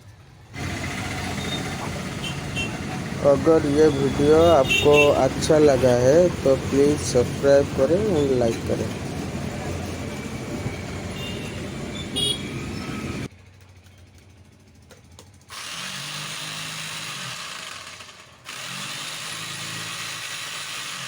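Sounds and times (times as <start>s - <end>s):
electric breaker hammer running: 0.6s - 13.3s, 15.5s - 21.0s.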